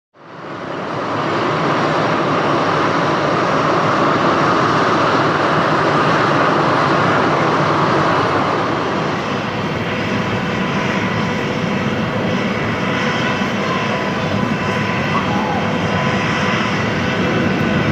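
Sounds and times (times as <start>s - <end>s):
jet engines roaring: 0.3s - 17.9s.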